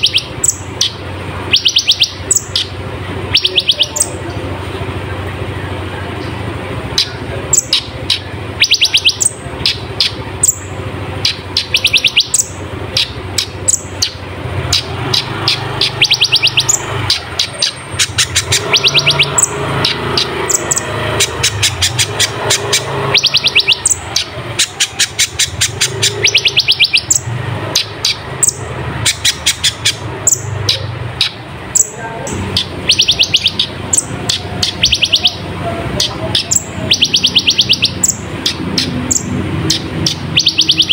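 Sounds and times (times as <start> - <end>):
steady low hum: 0.0 - 37.2
sunbird singing: 0.0 - 40.9.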